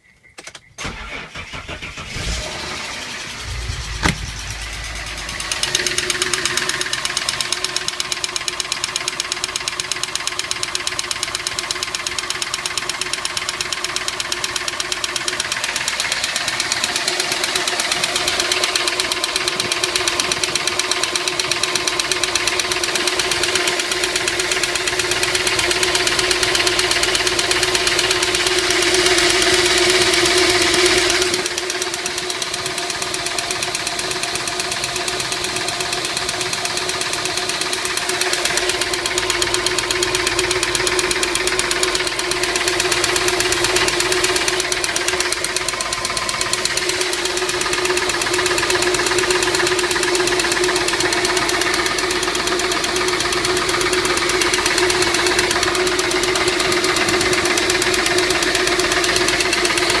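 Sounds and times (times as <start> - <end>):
car engine idling: 0.8 - 60.0.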